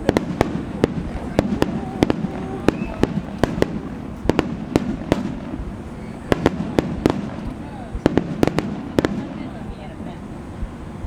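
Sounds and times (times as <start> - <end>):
fireworks bangs and cracks: 0.0 - 10.9.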